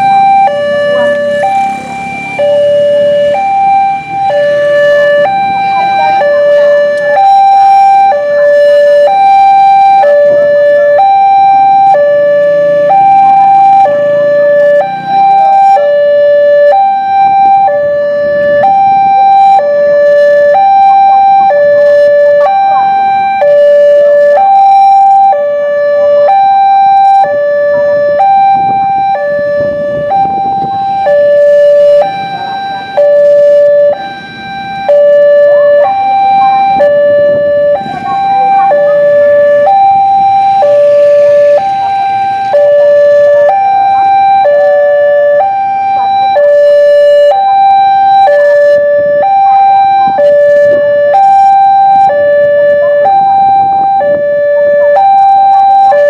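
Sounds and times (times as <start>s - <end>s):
two-tone level crossing alarm: 0.0s - 56.0s.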